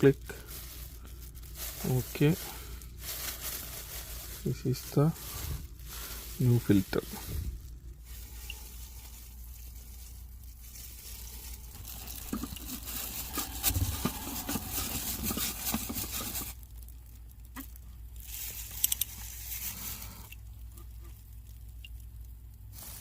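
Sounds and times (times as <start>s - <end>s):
oil filter handling crinkling: 0.0s - 23.0s.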